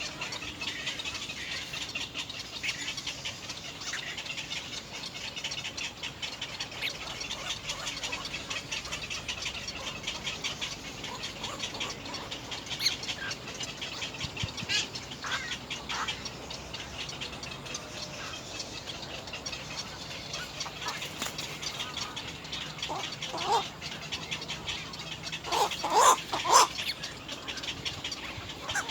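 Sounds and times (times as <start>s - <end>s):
falling bird calls: 0.0s - 28.9s
nestling birds cheeping: 0.0s - 28.9s.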